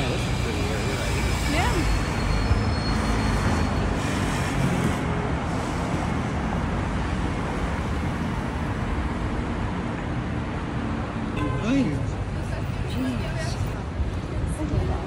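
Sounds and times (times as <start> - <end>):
cars and vans passing: 0.0 - 15.0.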